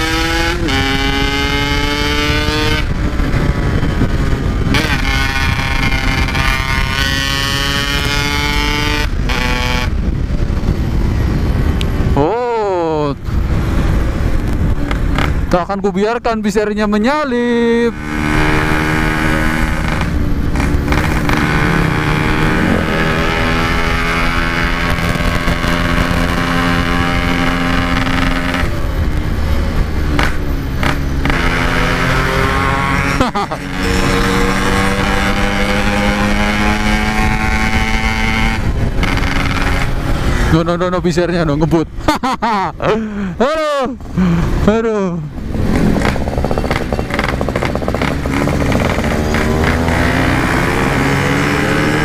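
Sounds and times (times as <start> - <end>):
motorcycle engine accelerating: 0.0 - 12.3, 13.3 - 15.6, 17.4 - 41.5, 44.0 - 52.0
wind rush on microphone: 0.0 - 42.1.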